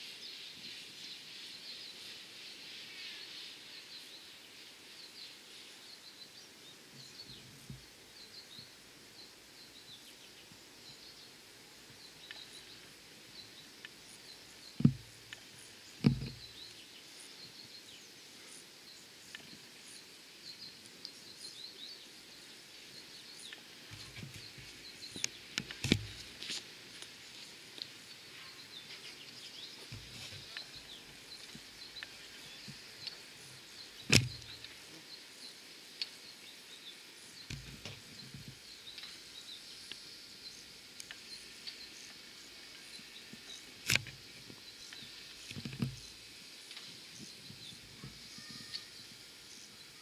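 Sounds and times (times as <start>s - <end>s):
birds chirping: 5.0s - 50.0s.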